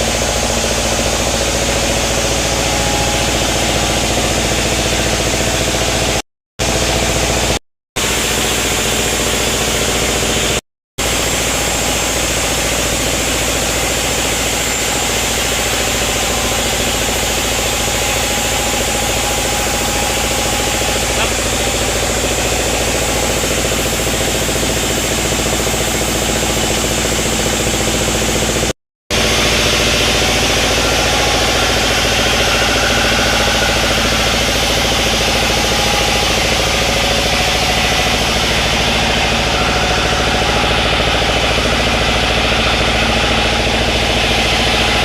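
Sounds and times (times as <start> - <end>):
sawmill machinery hum: 0.0 - 45.0.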